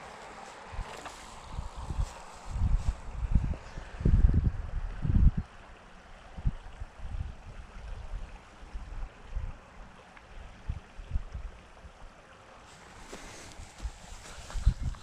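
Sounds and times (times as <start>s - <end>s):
wind buffeting microphone: 0.0s - 9.7s, 10.4s - 12.0s, 12.8s - 15.0s
faint steady hiss: 0.0s - 15.0s.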